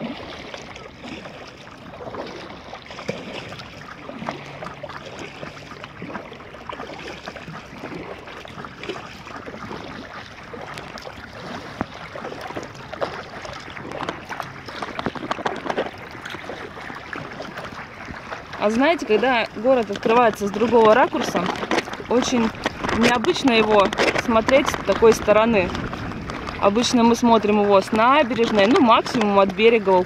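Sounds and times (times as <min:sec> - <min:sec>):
paddle splashes: 0:00.0 - 0:30.0
water lapping around paddleboard: 0:00.0 - 0:30.0.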